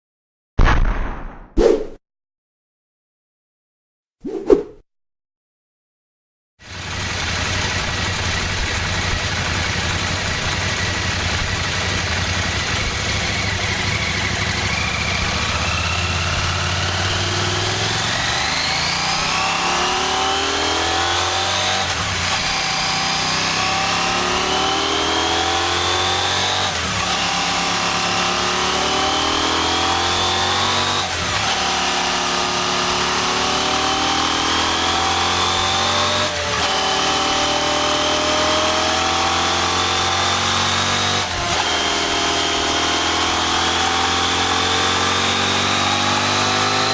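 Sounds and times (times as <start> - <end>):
motorcycle engine revving under load: 6.6 - 46.9
dyno drum and tyre whine: 6.7 - 46.9.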